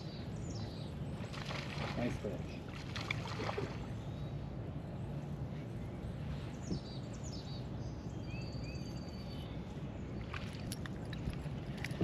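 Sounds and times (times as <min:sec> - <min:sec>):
low background rumble: 0:00.0 - 0:12.0
songbirds chirping: 0:00.0 - 0:12.0.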